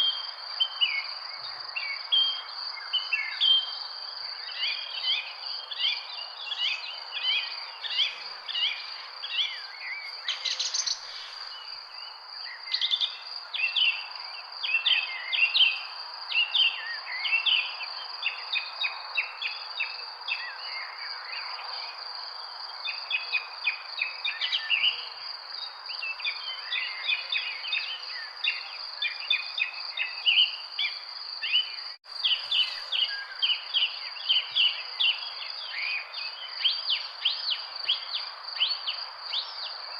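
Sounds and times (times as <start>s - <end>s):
small birds chirping: 0.0s - 22.1s, 22.7s - 39.9s
crickets droning: 0.0s - 39.9s.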